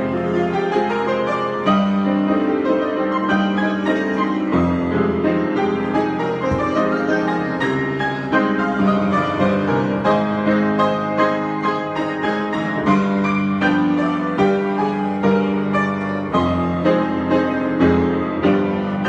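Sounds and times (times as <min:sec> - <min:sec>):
piano improvisation: 0:00.0 - 0:19.0.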